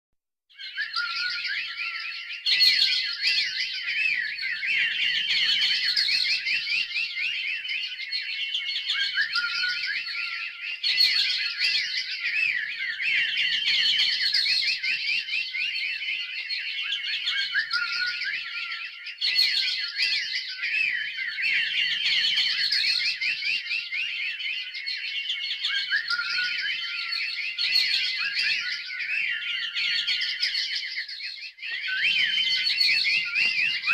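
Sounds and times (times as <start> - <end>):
small birds chirping: 0.5 - 33.9.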